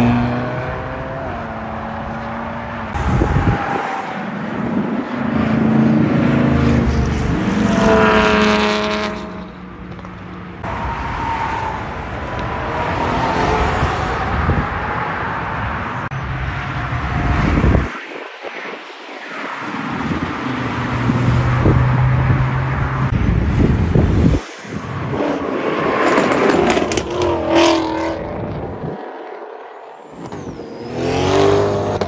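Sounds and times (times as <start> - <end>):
car engines revving and accelerating: 0.0 - 32.0.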